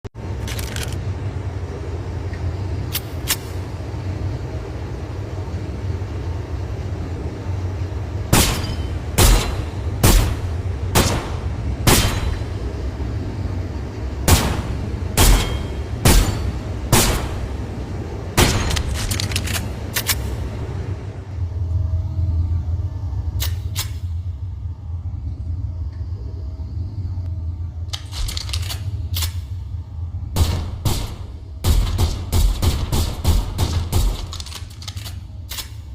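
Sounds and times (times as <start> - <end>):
low rumble: 0.2 - 35.9.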